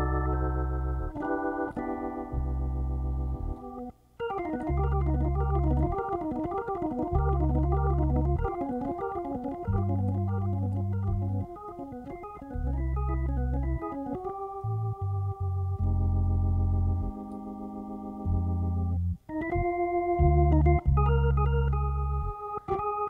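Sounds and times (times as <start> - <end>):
jazz organ playing: 0.0 - 23.0.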